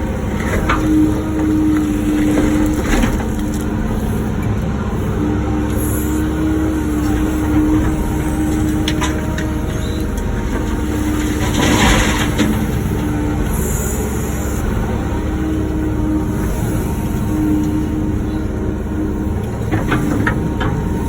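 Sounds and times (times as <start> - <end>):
excavator diesel engine rumble: 0.0 - 21.0.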